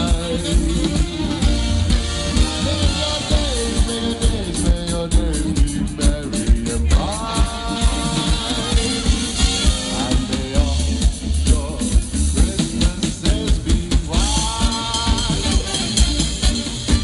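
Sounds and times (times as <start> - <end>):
bass line: 0.0 - 17.0
drum kit beat: 0.0 - 17.0
swing band chords: 0.0 - 17.0.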